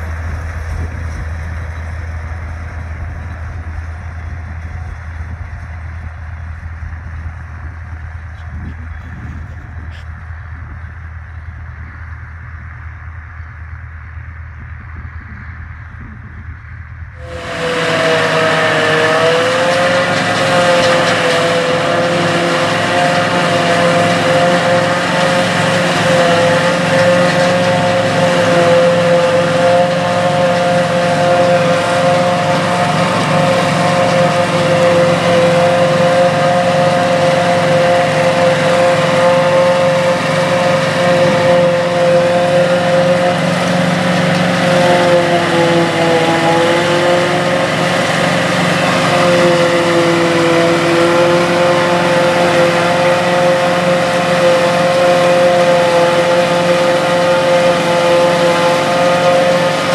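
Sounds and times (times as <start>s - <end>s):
tractor engine and chopper drone: 0.0s - 59.9s.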